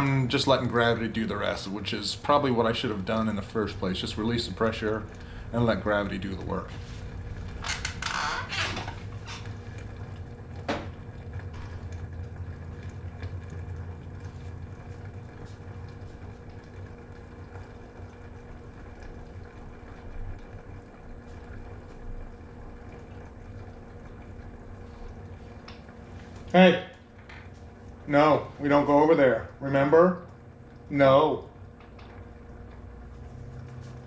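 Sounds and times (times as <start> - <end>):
liquid dribbling from keg: 0.0 - 34.0
steady low hum: 0.0 - 34.0.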